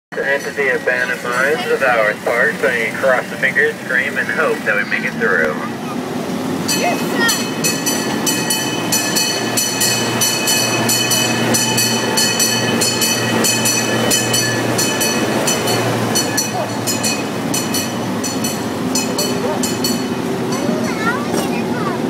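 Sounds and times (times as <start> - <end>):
train cars rattling: 0.1 - 22.0
train engine hum: 0.1 - 22.0.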